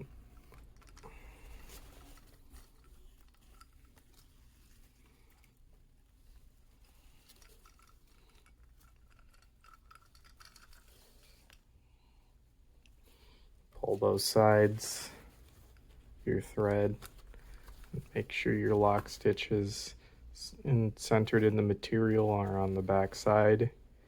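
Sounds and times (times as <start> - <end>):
faint rustling: 0.0 - 24.0.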